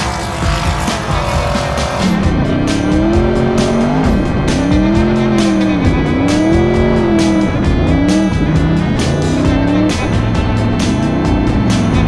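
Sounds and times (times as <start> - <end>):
music beat: 0.0 - 12.0
race car engine revving: 0.0 - 12.0.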